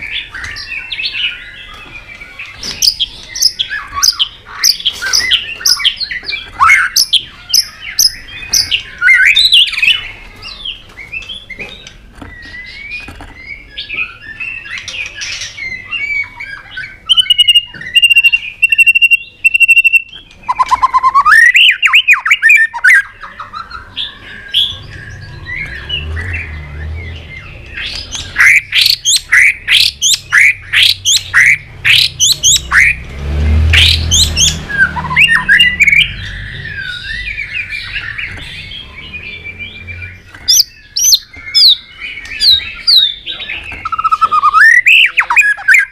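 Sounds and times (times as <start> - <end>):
bird singing whistles and chirps: 0.0 - 33.0, 33.7 - 45.9.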